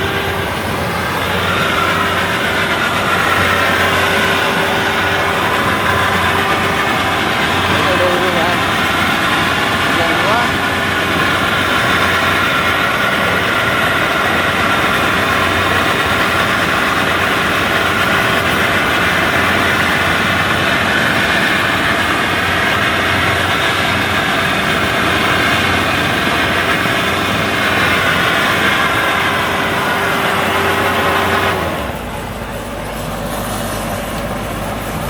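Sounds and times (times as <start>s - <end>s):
combine harvester engine droning: 0.0s - 35.0s.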